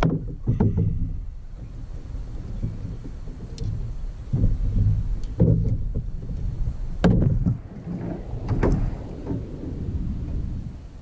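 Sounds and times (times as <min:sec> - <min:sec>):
low rumble: 0:00.6 - 0:11.0.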